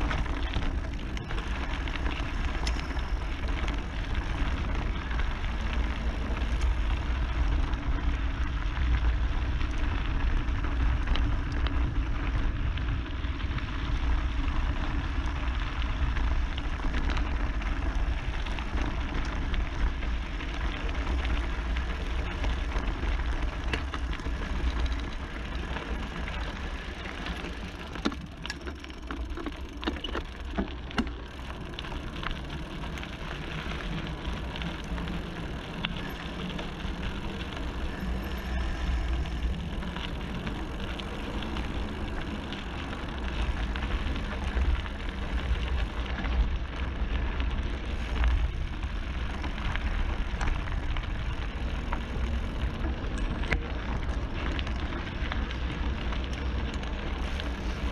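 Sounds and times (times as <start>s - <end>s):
bicycle clicks and rattles: 0.0s - 57.9s
tyres crunching over gravel: 0.0s - 57.9s.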